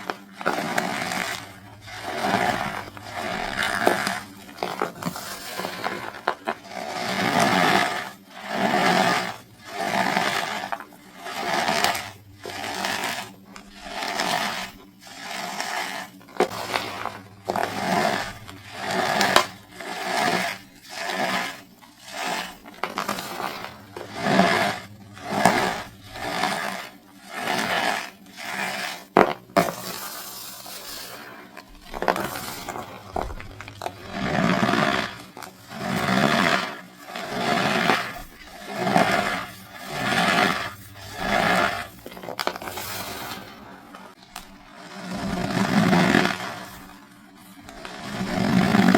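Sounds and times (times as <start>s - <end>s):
cornstarch bricks crunching by hand: 0.0s - 48.9s.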